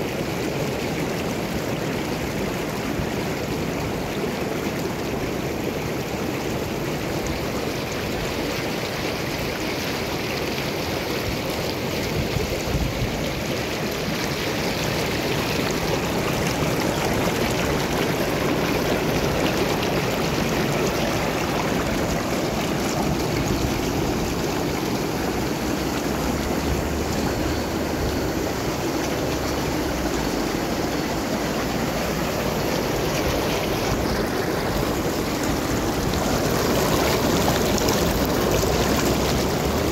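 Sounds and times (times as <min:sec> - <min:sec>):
water churning and bubbling: 0:00.0 - 0:39.9.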